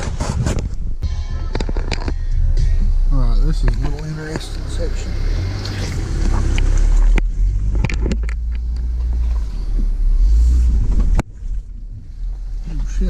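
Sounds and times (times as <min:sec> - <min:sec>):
truck engine rumbling: 0:00.7 - 0:13.0.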